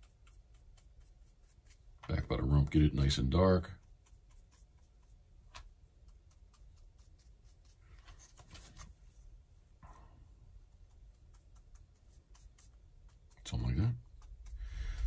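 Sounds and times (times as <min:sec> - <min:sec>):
dry paintbrush scratching: 0:00.0 - 0:09.3, 0:10.6 - 0:15.0.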